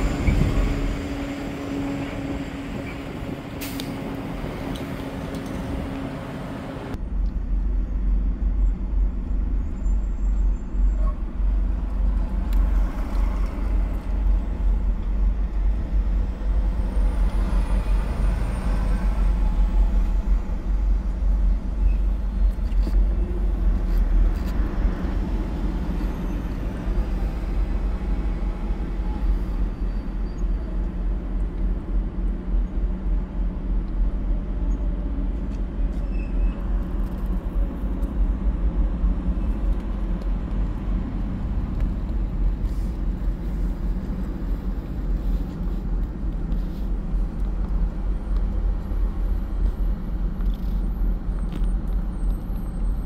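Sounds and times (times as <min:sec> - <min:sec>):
heavy truck traffic rumble: 0:00.0 - 0:53.0.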